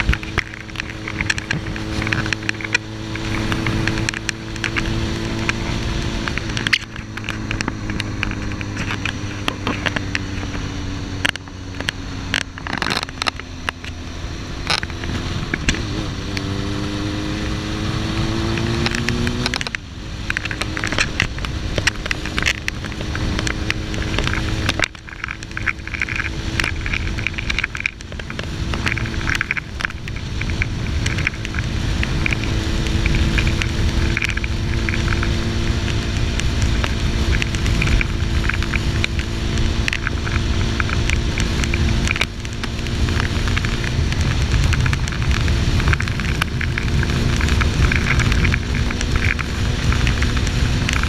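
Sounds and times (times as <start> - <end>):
motorcycle engine revving: 0.0 - 51.0
wind noise on microphone: 0.0 - 51.0.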